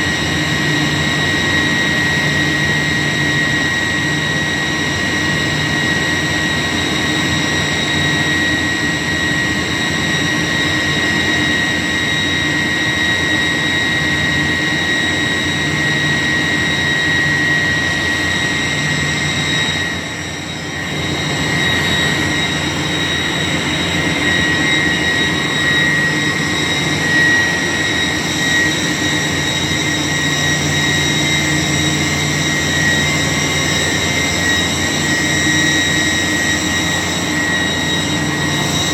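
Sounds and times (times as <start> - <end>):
chiller machine drone: 0.0 - 38.9.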